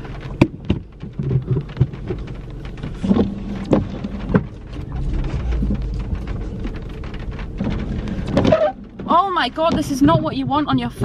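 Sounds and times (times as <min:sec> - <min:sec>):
car engine rumble from inside: 0:00.0 - 0:11.0
rain pattering on car: 0:00.0 - 0:11.0.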